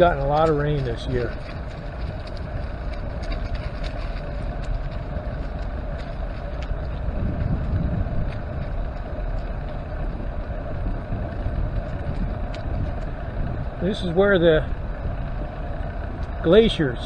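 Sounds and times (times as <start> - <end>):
bicycle tyres rolling over trail: 0.0 - 17.0
light ticks and rattles: 0.0 - 17.0
wind on microphone: 0.0 - 17.0.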